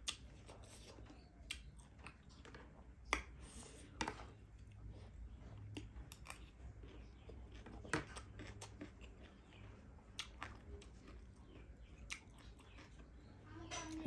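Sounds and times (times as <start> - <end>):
chewing crunchy snack: 0.0 - 14.0.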